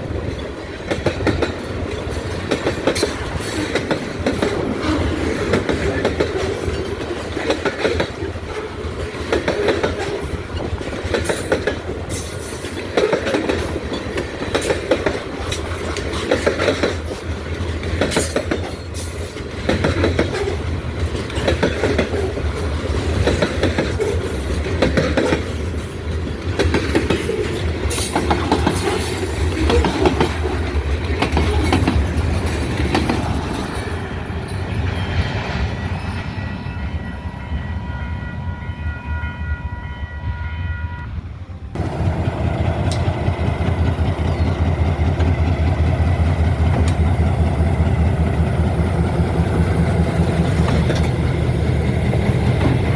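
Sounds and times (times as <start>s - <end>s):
train wheels clicking over rail joints: 0.0s - 36.4s, 41.7s - 52.9s
low rumble of train cars: 0.0s - 52.9s.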